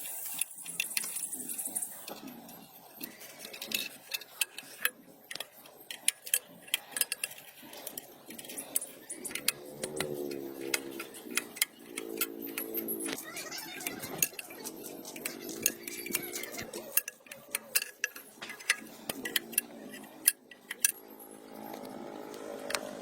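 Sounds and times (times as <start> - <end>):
metal tools clinking: 0.0 - 23.0.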